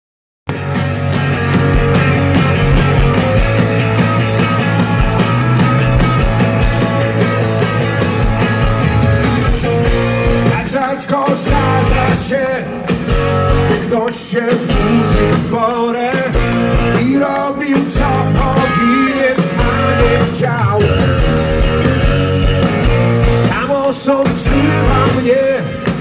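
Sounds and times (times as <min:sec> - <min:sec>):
live rock band playing: 0:00.5 - 0:26.0.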